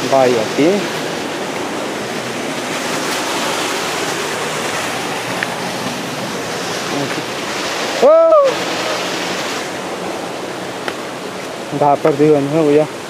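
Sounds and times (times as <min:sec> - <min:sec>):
river water flowing over rocks: 0:00.0 - 0:13.0.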